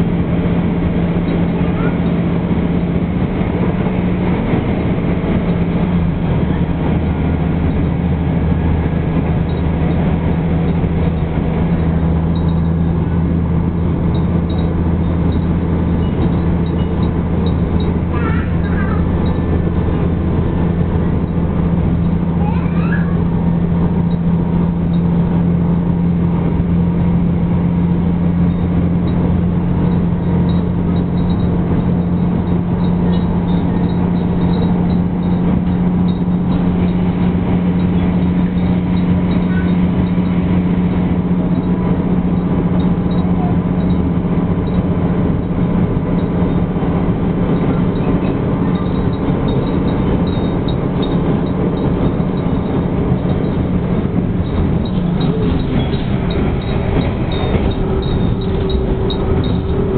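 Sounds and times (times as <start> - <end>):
railcar engine drone: 0.0 - 59.9
train running noise: 0.0 - 59.9.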